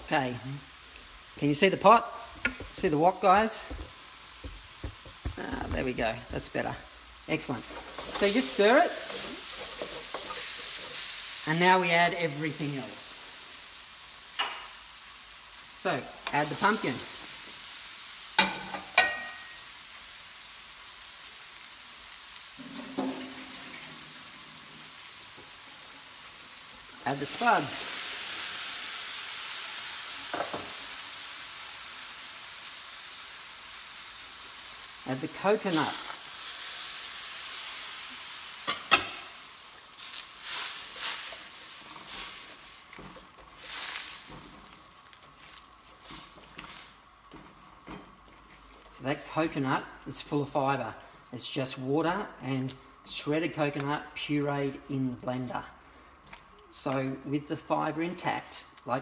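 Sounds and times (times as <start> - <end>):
curry sizzling in a wok: 0.0 - 59.0.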